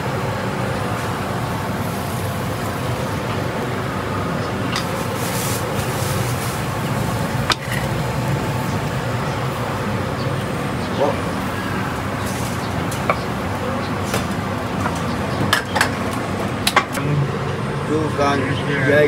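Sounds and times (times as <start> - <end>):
kitchen hum and rush: 0.0 - 19.0.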